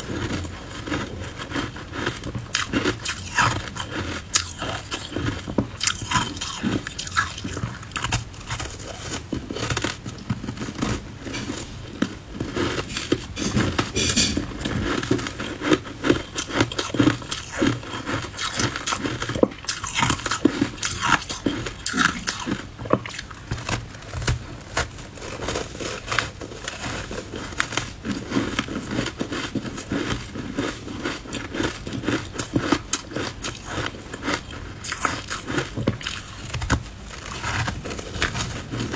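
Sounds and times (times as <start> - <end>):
ice bars crunching in mouth: 0.0 - 38.9
ice cracking between teeth: 0.8 - 10.0, 15.1 - 24.3, 25.2 - 38.9.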